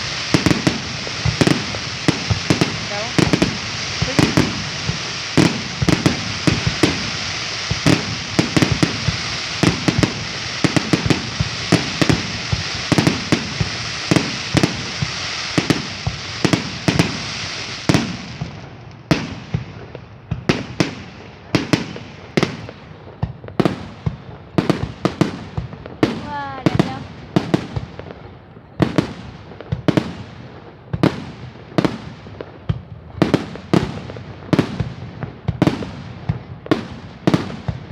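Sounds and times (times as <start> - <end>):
fireworks booms and bangs: 0.0 - 37.9
fireworks crackling hiss: 0.0 - 37.9.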